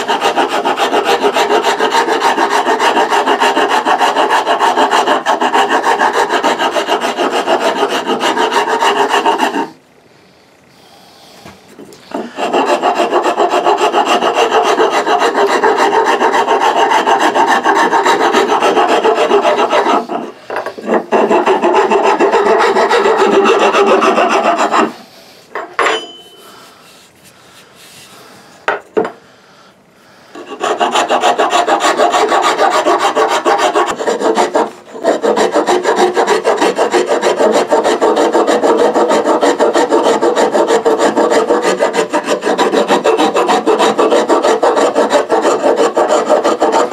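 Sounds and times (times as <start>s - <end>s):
rasp scraping wood: 0.0s - 9.8s, 11.8s - 25.1s, 30.3s - 46.9s.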